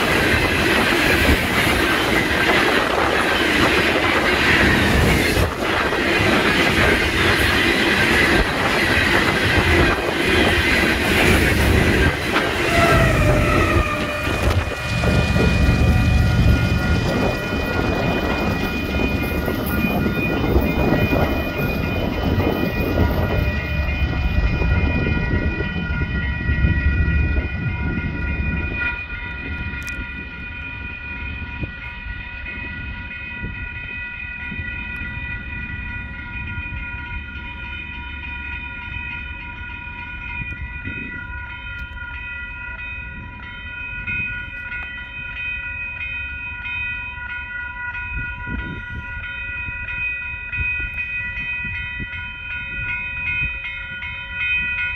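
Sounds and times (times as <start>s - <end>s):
crossing bells ringing: 0.0s - 54.9s
passing train rumble: 0.0s - 54.9s.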